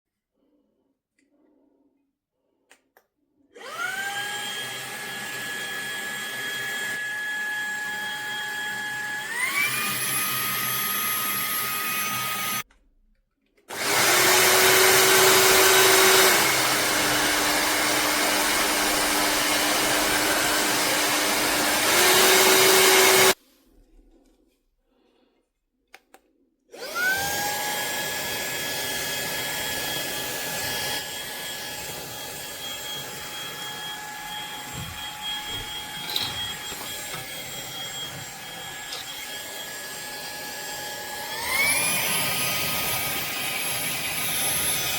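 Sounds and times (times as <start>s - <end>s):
handheld vacuum motor whining: 3.6s - 12.7s, 13.7s - 23.4s, 26.7s - 44.9s.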